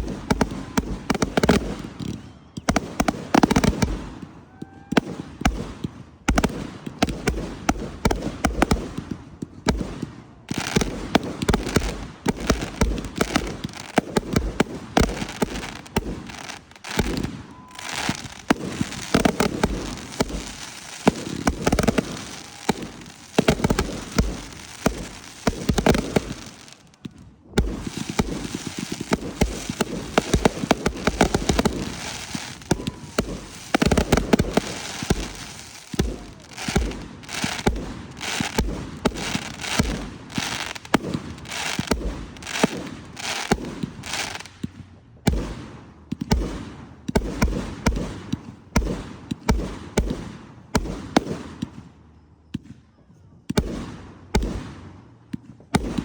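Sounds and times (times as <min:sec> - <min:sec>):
fireworks crackling and banging: 0:00.0 - 0:52.8, 0:53.5 - 0:56.0.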